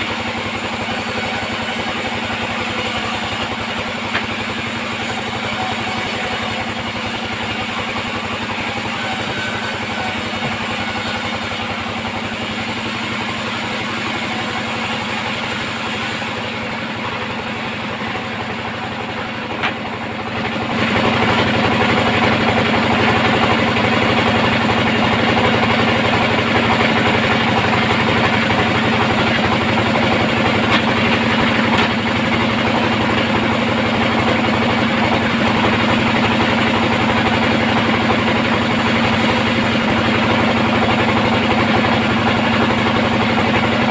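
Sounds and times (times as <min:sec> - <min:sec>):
band sawmill drone: 0:00.0 - 0:43.9.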